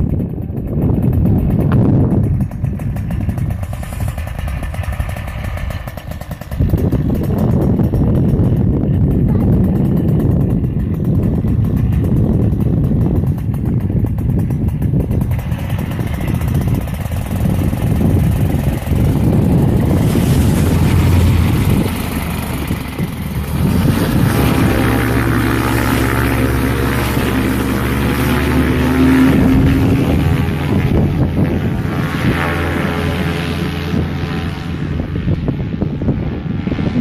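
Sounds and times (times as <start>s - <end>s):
paramotor engine and propeller: 0.0s - 37.0s
wind noise on microphone: 0.0s - 37.0s.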